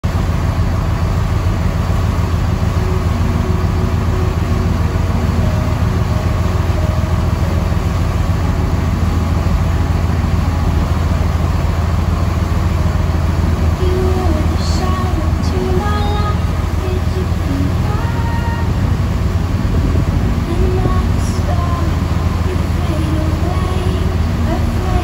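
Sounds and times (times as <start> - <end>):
boat engines droning: 0.0 - 25.0
rush of churning wake: 0.0 - 25.0.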